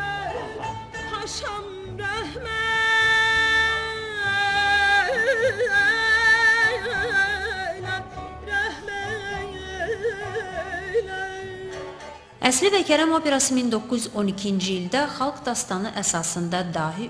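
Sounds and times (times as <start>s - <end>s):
woman singing opera: 0.0s - 15.9s.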